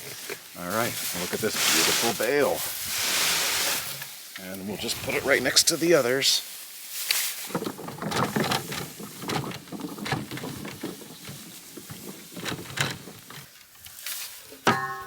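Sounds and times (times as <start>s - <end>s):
hay rustling and crackling: 0.0s - 14.5s.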